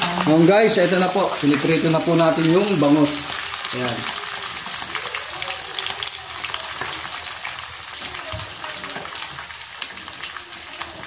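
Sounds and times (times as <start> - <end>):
fish frying in hot oil: 0.0 - 11.0
sizzle with crackles and pops: 0.0 - 11.0.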